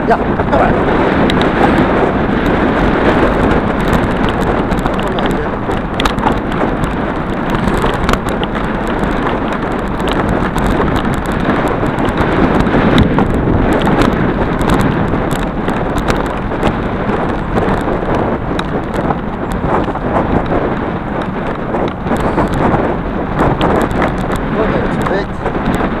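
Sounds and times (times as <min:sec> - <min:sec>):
wind rushing over microphone: 0:00.0 - 0:26.0
bicycle clicks and rattles: 0:00.9 - 0:26.0.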